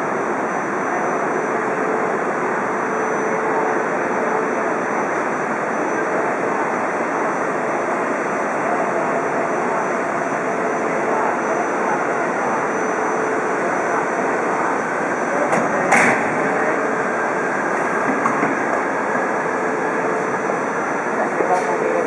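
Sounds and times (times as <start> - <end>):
rushing hum of trains: 0.0 - 22.0.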